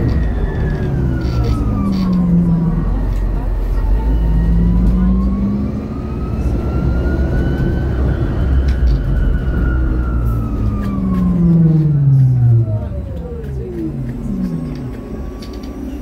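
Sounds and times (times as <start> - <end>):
electric bus drive whining: 0.0 - 16.0
engine and road rumble: 0.0 - 16.0.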